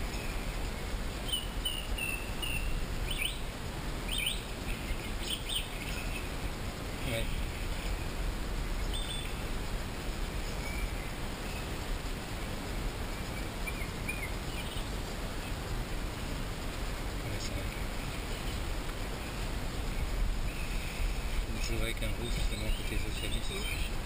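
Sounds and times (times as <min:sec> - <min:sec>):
low rushing hiss: 0:00.0 - 0:24.0.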